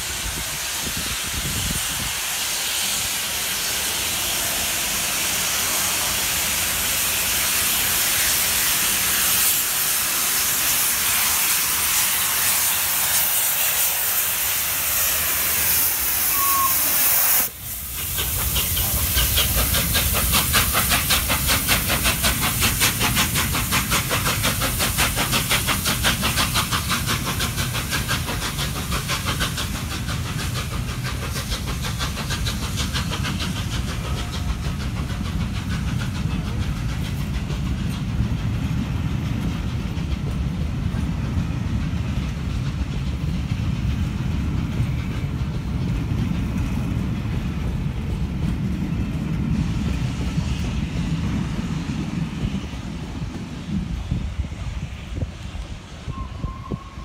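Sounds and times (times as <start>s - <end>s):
steam hissing: 0.0s - 57.0s
steam locomotive passing: 0.0s - 57.0s
train coaches passing: 0.0s - 57.0s.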